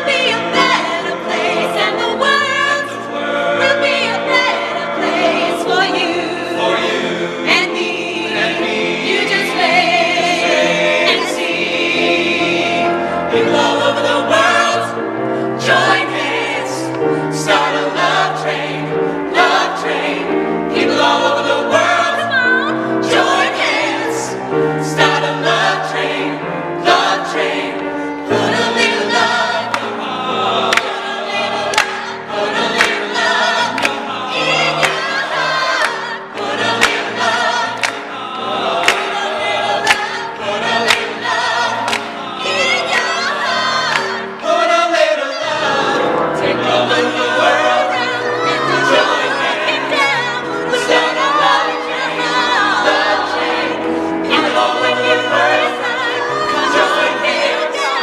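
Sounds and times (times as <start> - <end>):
choir singing with accompaniment: 0.0 - 58.0.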